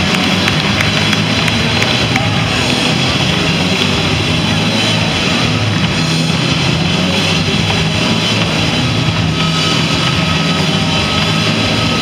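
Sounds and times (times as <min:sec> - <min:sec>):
roller skate wheels rumbling: 0:00.0 - 0:12.0.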